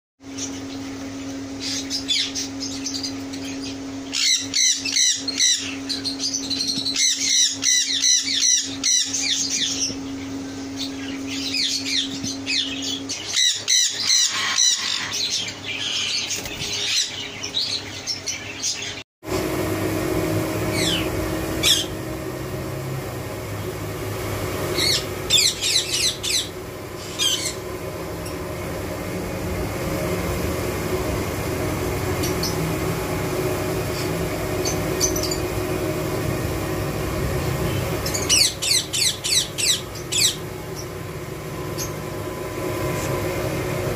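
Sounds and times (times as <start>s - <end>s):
steady hum: 0.2s - 43.9s
parakeets squawking and chattering: 0.3s - 19.0s, 20.6s - 22.1s, 24.7s - 29.3s, 31.0s - 42.1s.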